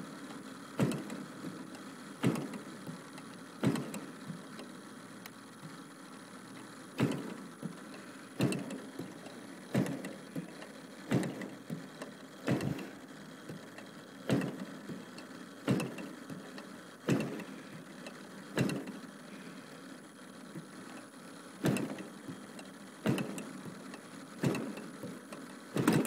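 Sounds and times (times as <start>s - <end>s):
engine cranking without firing: 0.0s - 26.0s.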